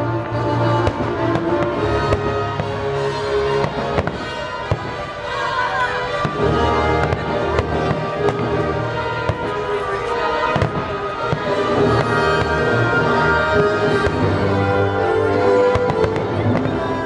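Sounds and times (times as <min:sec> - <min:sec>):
fireworks bursting in bangs: 0:00.0 - 0:17.0.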